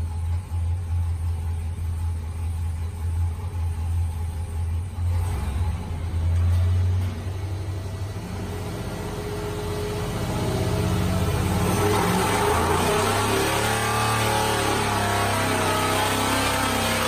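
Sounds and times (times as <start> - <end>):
engine running on a dyno: 0.0 - 17.0.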